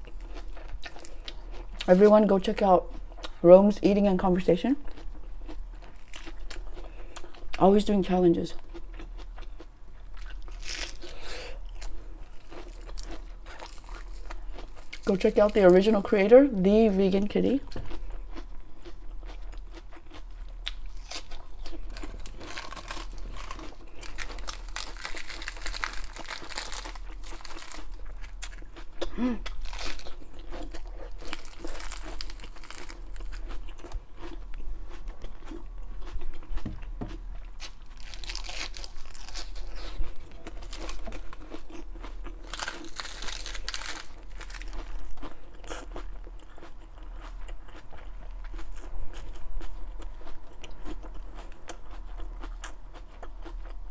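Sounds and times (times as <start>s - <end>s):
lettuce crunching and chewing: 0.0s - 3.4s, 4.2s - 53.9s.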